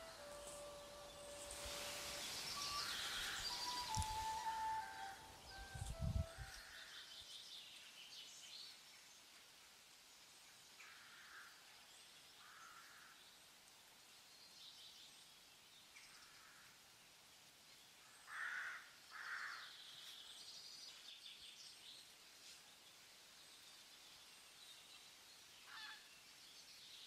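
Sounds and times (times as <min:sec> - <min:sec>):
faint birdsong: 0:00.0 - 0:27.0.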